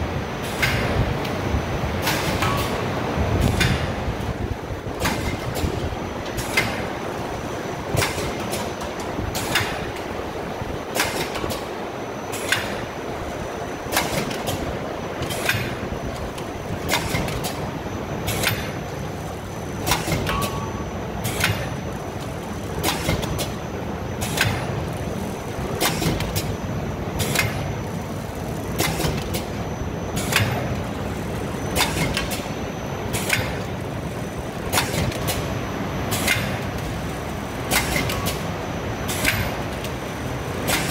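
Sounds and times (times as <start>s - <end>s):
steady motor hum: 0.0s - 40.9s
packing machine clacking: 2.0s - 40.9s.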